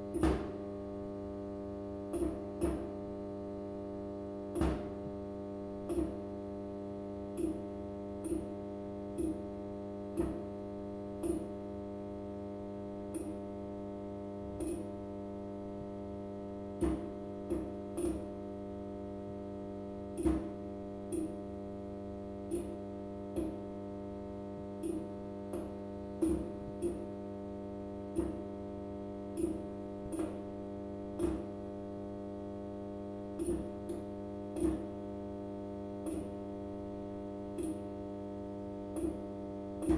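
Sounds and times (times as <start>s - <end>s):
fluorescent tube humming: 0.0s - 39.9s.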